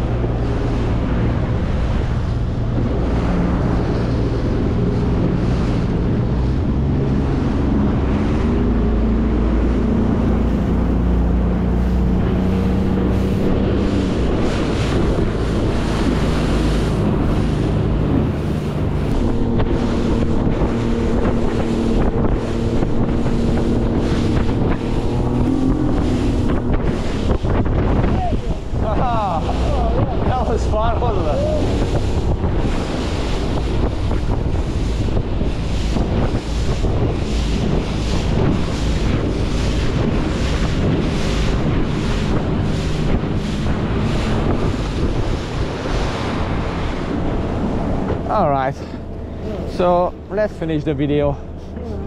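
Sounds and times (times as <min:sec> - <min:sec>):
hull knocking on waves: 0:00.0 - 0:51.2
outboard motor running: 0:00.0 - 0:52.0
water rushing past hull: 0:00.0 - 0:52.0
wind on microphone: 0:00.0 - 0:52.0.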